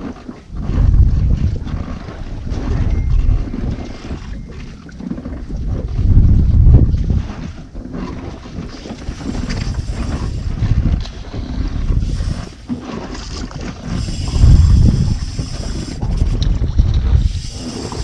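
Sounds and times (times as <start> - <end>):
sea water washing around boat: 0.0 - 18.0
wind buffeting microphone: 0.0 - 18.0.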